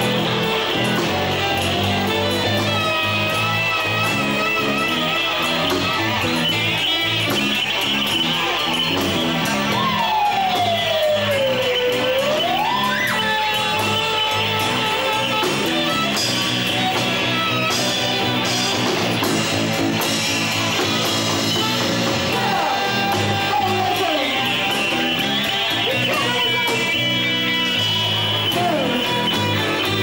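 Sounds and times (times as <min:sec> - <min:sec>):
electric guitar lead sliding: 0:00.0 - 0:30.0.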